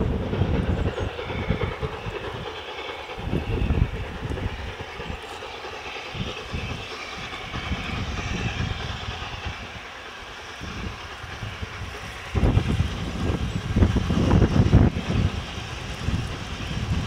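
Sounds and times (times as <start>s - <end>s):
distant steam locomotive: 0.0s - 17.0s
wind buffeting microphone: 0.0s - 17.0s.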